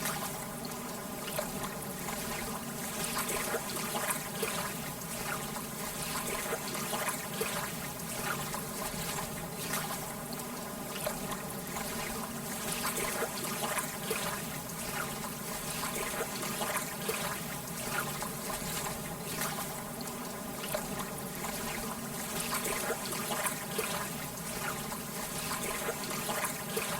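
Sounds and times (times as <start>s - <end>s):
water lapping at shore: 0.0s - 26.9s.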